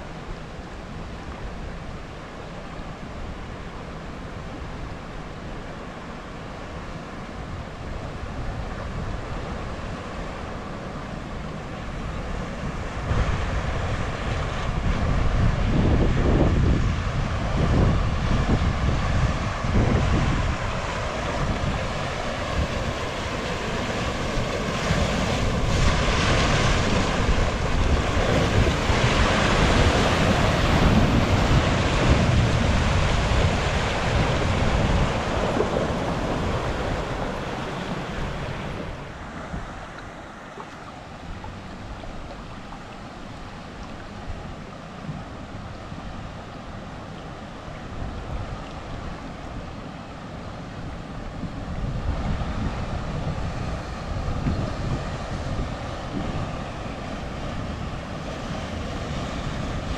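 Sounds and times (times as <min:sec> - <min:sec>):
river rushing: 0:00.0 - 0:59.9
wind buffeting microphone: 0:06.8 - 0:59.9
water splashing around wheels: 0:07.5 - 0:59.9.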